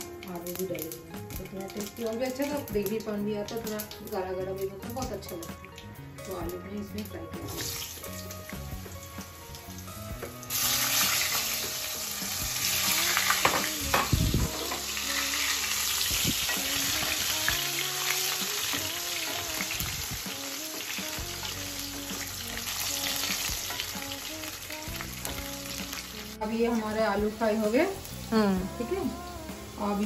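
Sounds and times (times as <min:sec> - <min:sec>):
potatoes sizzling in hot oil: 0:00.0 - 0:30.0.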